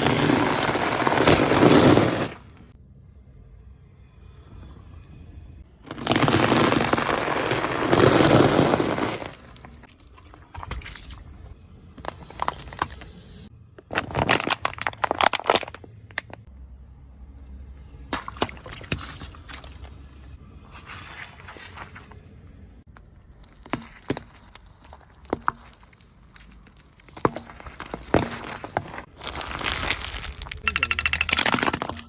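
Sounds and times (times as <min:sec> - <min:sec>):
objects crackling under car tyre: 0:00.0 - 0:02.8, 0:05.8 - 0:16.5, 0:18.1 - 0:32.0.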